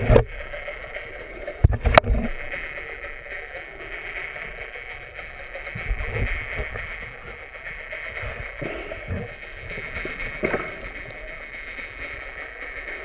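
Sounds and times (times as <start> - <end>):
muffled underwater water hiss: 0.0 - 13.0.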